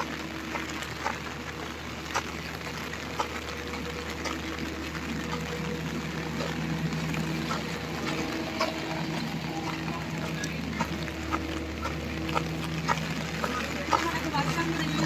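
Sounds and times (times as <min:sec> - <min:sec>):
drips and splashes: 0:00.0 - 0:15.0
low steady hum: 0:00.0 - 0:15.0
rain falling: 0:00.0 - 0:15.0.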